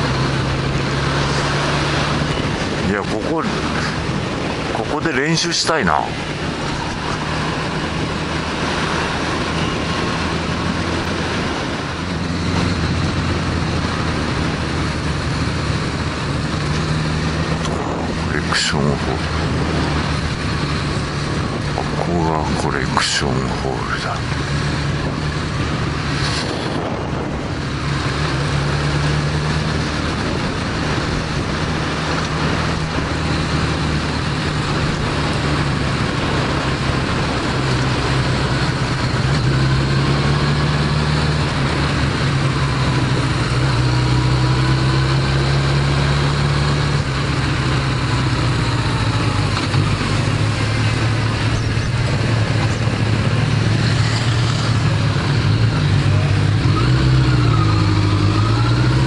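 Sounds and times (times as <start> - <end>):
motorcycle engine running: 0.0 - 22.8, 23.4 - 59.0
wind and road noise: 0.0 - 59.0.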